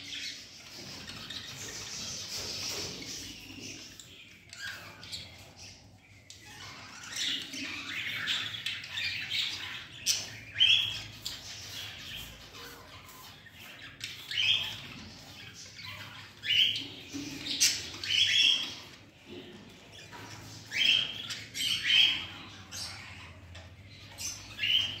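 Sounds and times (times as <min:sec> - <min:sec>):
soft bird chattering: 0:00.0 - 0:25.0.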